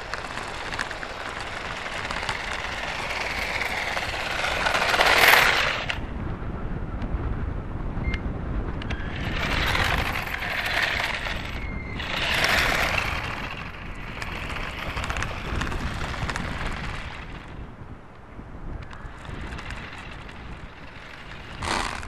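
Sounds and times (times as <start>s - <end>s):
toy car rolling hiss: 0.0s - 6.1s, 8.9s - 17.6s, 18.8s - 22.0s
wind rumble on microphone: 0.0s - 22.0s.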